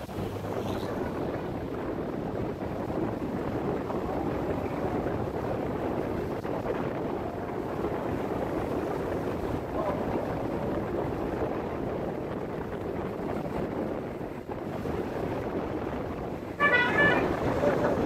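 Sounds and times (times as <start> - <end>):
motorcycle riding: 0.0 - 18.0
wind on microphone: 0.0 - 18.0.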